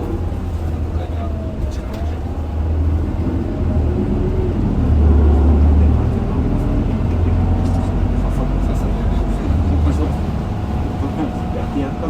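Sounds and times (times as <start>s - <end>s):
bus diesel engine drone: 0.0s - 12.0s
road noise: 0.0s - 12.0s.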